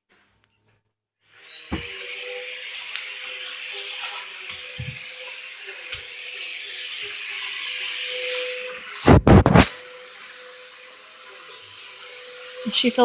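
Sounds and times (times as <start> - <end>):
vacuum cleaner running: 1.4 - 13.0.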